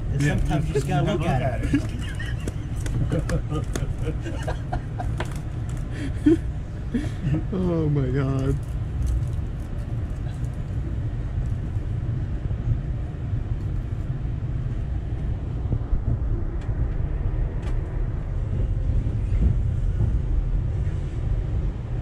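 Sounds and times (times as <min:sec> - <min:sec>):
train car rumbling on track: 0:00.0 - 0:22.0.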